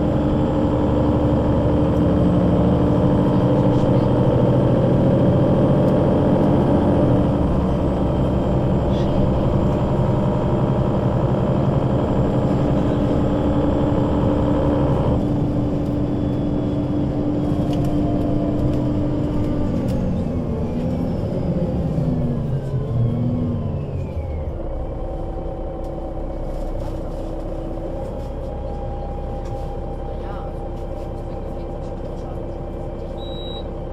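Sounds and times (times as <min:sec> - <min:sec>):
bus diesel engine: 0:00.0 - 0:33.9.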